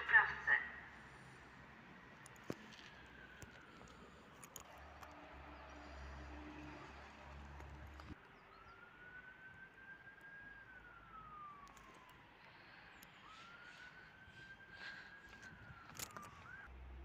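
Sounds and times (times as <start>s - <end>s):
distant siren wailing: 0.0s - 16.8s.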